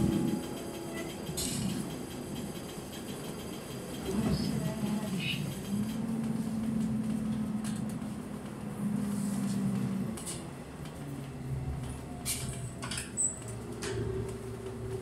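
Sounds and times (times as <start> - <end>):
train coach rumble: 0.0 - 15.0.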